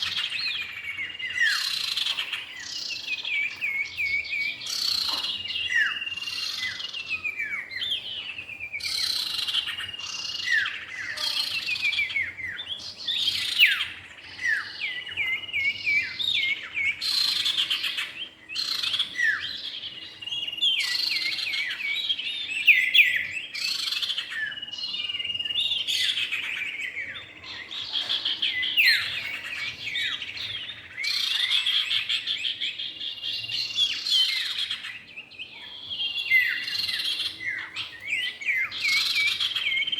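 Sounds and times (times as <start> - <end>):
birds singing chirps and trills: 0.0 - 39.9.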